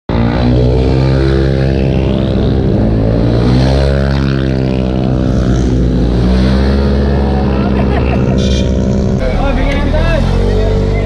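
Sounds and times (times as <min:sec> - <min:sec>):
scooter engine running: 0:00.1 - 0:11.0.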